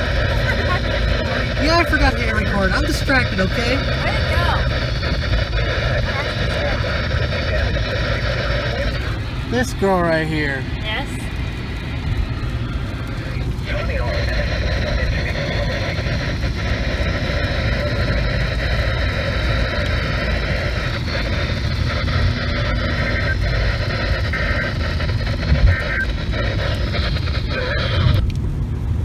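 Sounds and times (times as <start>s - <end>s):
car cabin road and engine noise: 0.0s - 29.0s.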